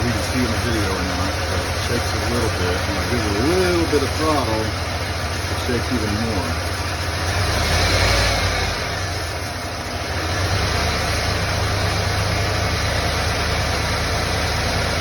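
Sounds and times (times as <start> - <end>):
engine idling with misfire: 0.0 - 15.0.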